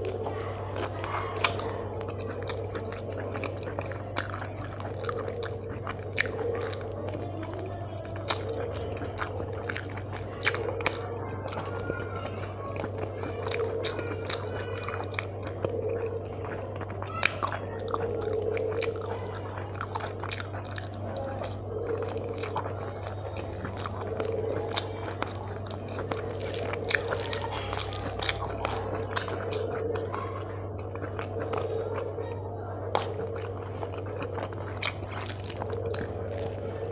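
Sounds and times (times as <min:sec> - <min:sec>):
fingers mixing food: 0:00.0 - 0:36.9
steady low hum: 0:00.0 - 0:36.9
wet chewing and lip smacks: 0:00.0 - 0:36.9.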